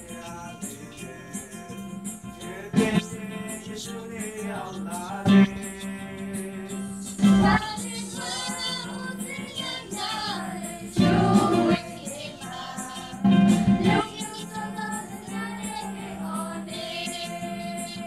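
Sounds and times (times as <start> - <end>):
group singing a carol: 0.0 - 18.0
instrumental accompaniment: 0.2 - 16.5.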